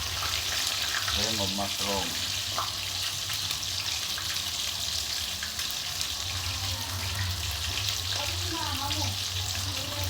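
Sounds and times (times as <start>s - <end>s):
gravy sizzling in a pan: 0.0s - 10.0s.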